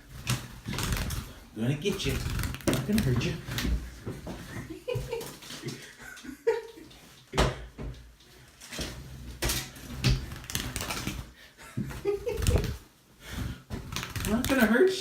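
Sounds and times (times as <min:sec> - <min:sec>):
rustling: 0:00.0 - 0:06.2, 0:08.0 - 0:15.0.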